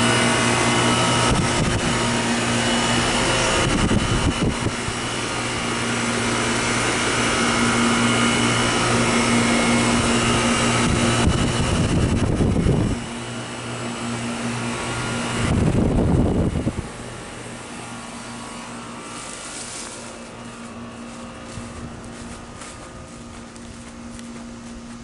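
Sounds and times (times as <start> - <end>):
compressor hum: 0.0 - 25.0
fans rushing air: 0.0 - 25.0.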